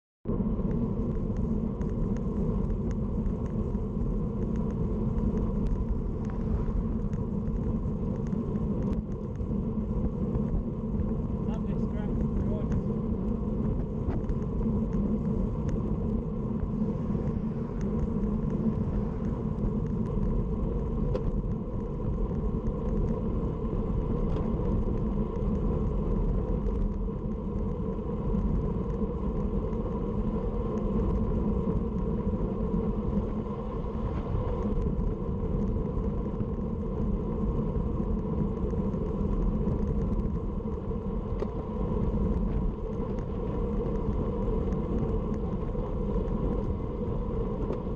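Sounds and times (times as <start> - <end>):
bicycle tyres road noise: 0.3 - 47.9
wind noise on microphone: 0.3 - 47.9.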